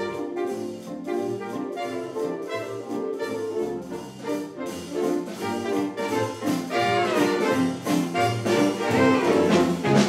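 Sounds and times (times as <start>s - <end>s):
brass and saxophone riffs: 0.0s - 10.0s
jazz big band playing swing: 0.0s - 10.0s.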